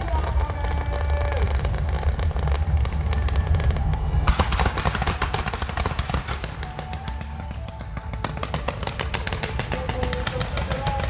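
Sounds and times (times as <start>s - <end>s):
fireworks crackling and banging: 0.0s - 11.0s
low rumble: 0.0s - 11.0s.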